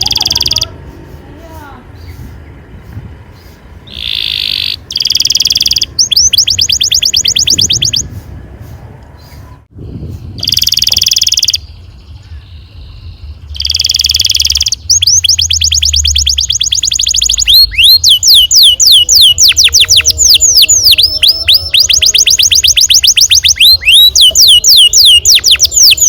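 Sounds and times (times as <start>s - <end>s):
canary singing: 0.0s - 9.6s, 10.2s - 26.0s.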